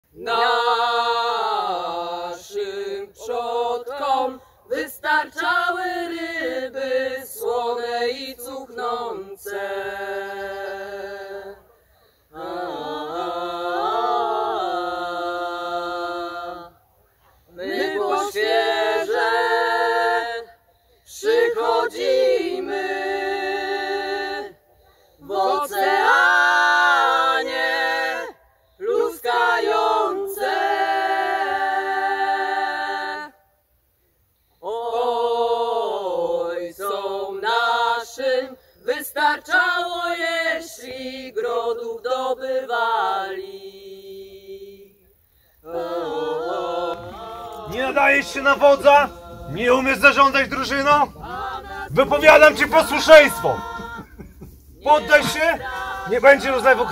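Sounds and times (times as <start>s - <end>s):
group singing a cappella: 0.0s - 33.6s, 34.5s - 56.9s.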